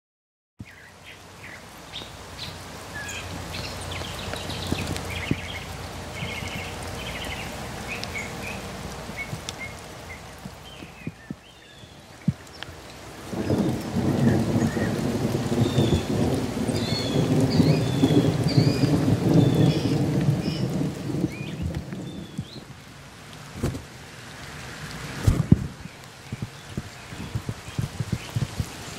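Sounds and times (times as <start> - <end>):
birds chirping: 0.6 - 22.9, 25.8 - 28.9.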